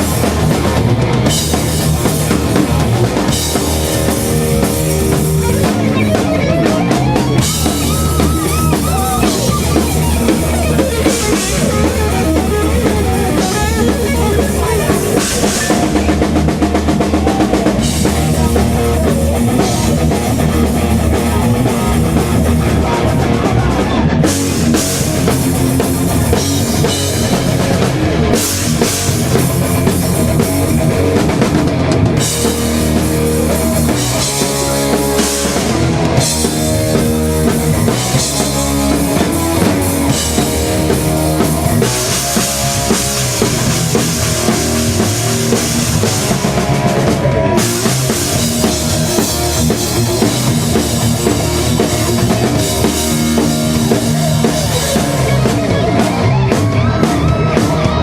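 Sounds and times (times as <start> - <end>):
drum kit pounding: 0.0 - 58.0
heavy metal band playing: 0.0 - 58.0.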